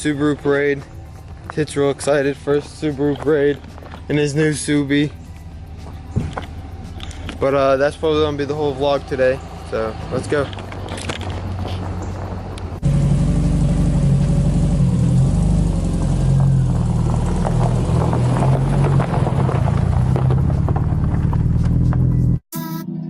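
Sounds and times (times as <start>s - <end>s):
car engine and exhaust rumbling: 0.0s - 22.4s.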